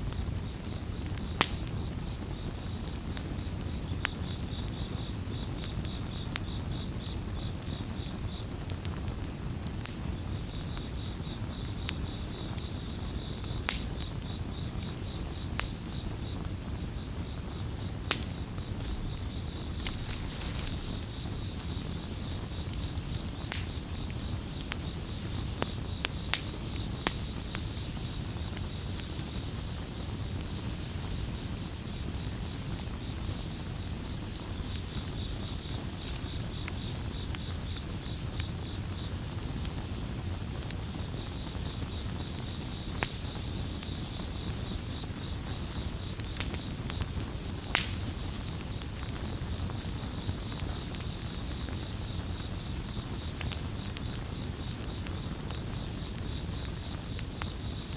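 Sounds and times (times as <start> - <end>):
campfire crackling and popping: 0.0 - 57.9
crickets chirping: 0.0 - 57.9.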